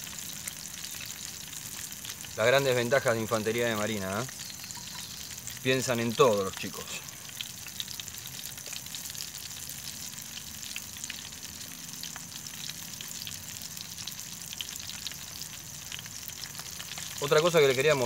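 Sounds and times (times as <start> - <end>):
fish frying in oil: 0.0 - 18.0.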